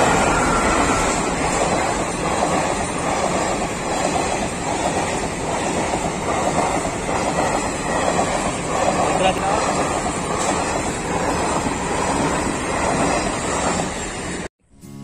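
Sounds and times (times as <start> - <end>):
passenger train passing: 0.0 - 14.5.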